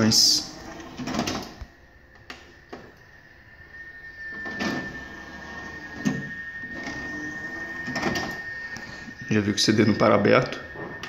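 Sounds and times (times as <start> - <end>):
disc tray motor sliding: 0.0 - 1.7, 3.7 - 11.0
high whine: 0.0 - 11.0.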